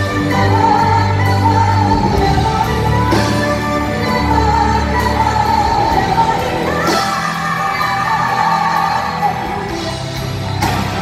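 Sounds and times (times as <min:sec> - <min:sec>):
backing band playing pop ballad: 0:00.0 - 0:11.0
woman singing into a microphone: 0:00.0 - 0:11.0.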